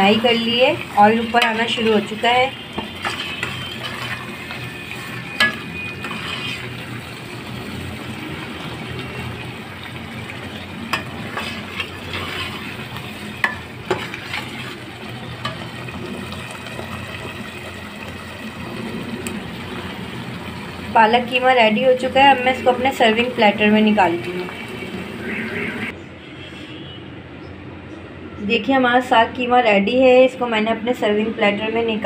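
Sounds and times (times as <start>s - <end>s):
meat sizzling in oil: 0.0s - 25.9s.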